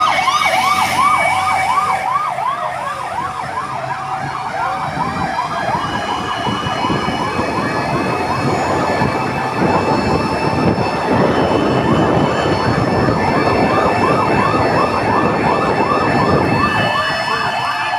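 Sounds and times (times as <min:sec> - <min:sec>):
fire truck sirens yelping: 0:00.0 - 0:17.9
steady siren tone: 0:00.0 - 0:17.9.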